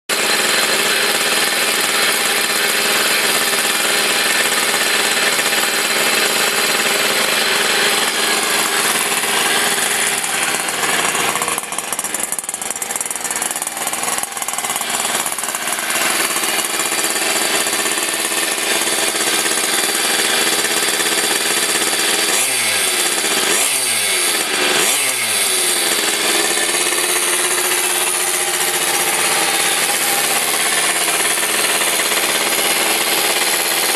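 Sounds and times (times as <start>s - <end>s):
moped engine buzzing: 0.1s - 33.9s.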